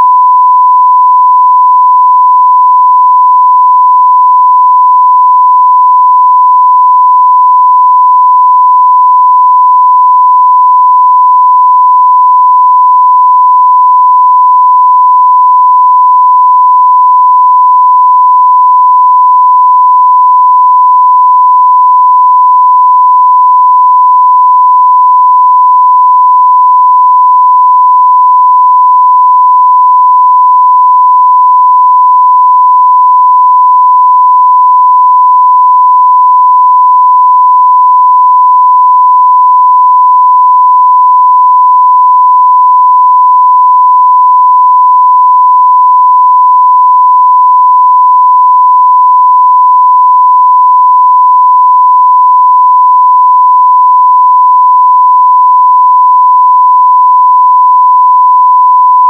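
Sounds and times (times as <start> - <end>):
sine-wave test tone: 0.0 - 59.0.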